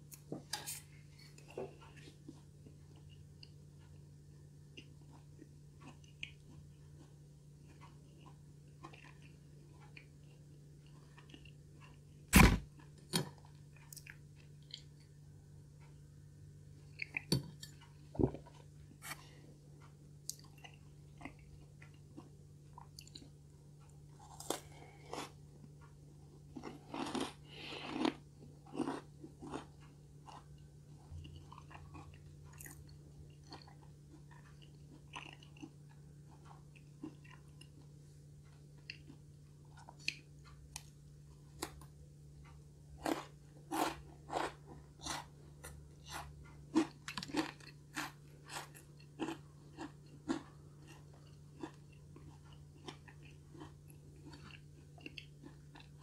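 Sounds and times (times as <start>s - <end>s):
chewing cookie: 0.1s - 15.2s, 16.8s - 56.0s.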